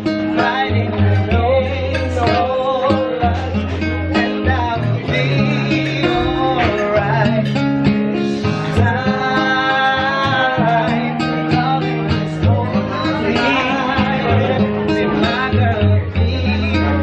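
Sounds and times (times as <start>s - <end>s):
acoustic guitar: 0.0s - 17.0s
men singing: 0.0s - 17.0s.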